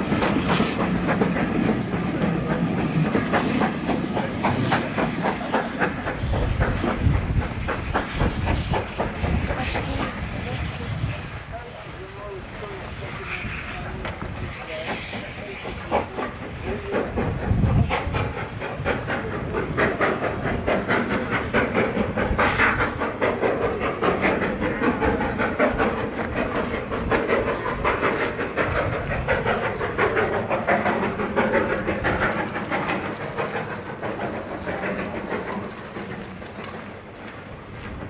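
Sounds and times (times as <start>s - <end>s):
train wheels clattering: 0.0s - 11.4s, 12.2s - 38.0s
steam hissing: 0.0s - 38.0s.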